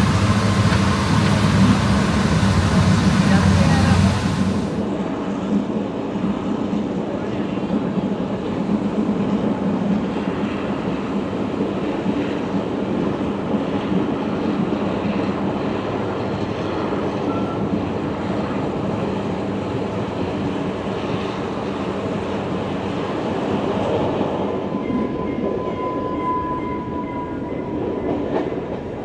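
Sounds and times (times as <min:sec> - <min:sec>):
train rumbling at speed: 0:00.0 - 0:29.0.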